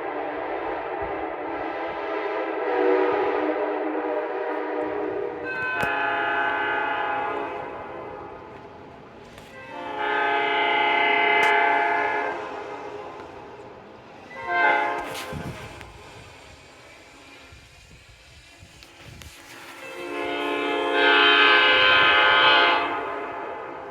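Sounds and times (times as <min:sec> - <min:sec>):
locomotive air horn blasts: 0:00.0 - 0:13.5, 0:14.3 - 0:16.4, 0:18.8 - 0:23.9.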